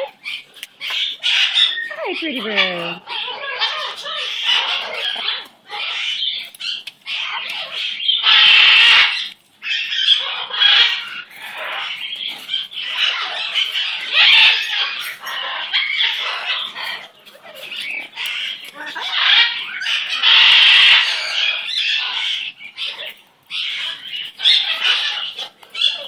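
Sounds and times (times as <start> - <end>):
parrot squawking and chattering: 0.0 - 26.0.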